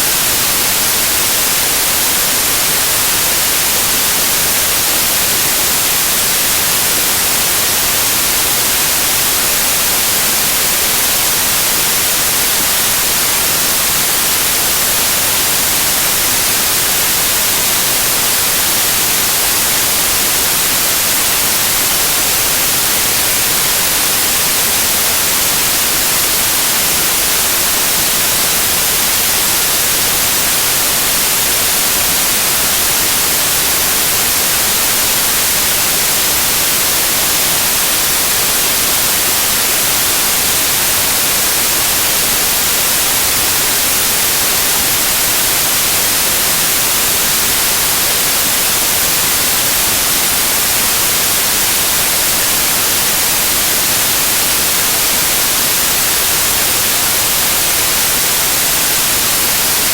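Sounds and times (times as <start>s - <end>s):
steady white noise: 0.0s - 59.9s.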